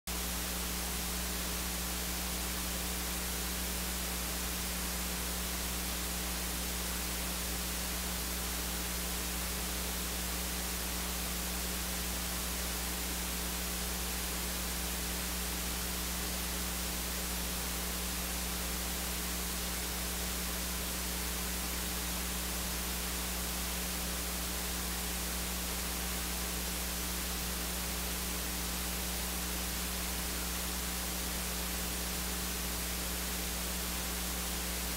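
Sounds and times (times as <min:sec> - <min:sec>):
low mains hum: 0:00.1 - 0:34.9.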